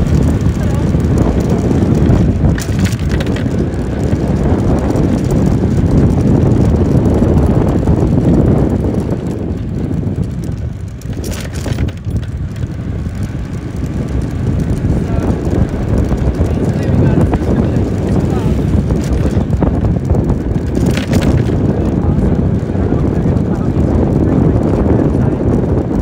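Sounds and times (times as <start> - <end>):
scooter and road noise: 0.0 - 26.0
wind buffeting microphone: 0.0 - 26.0.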